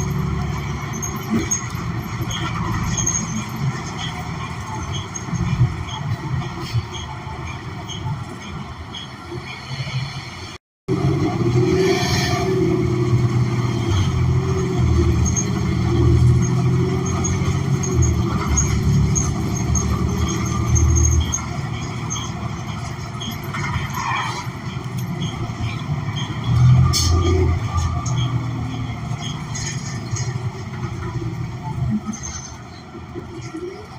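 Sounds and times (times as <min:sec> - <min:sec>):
bus engine rumbling: 0:00.0 - 0:33.9.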